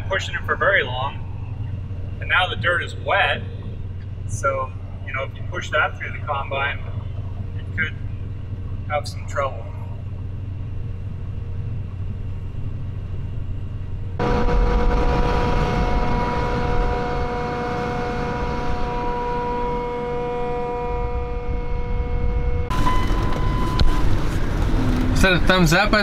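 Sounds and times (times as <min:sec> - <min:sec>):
combine harvester droning: 0:00.0 - 0:26.0
high machinery whine: 0:00.0 - 0:26.0.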